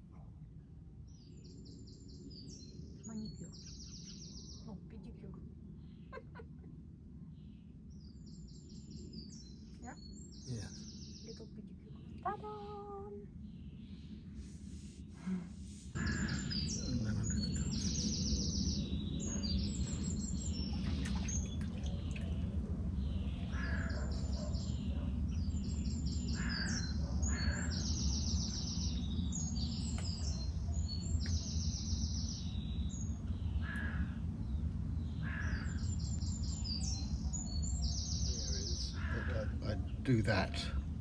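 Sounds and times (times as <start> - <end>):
wild birds chirping: 0.0 - 41.0.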